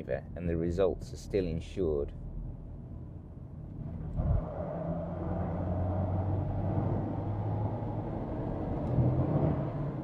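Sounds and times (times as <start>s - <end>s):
car engine hum under load: 0.0s - 10.0s.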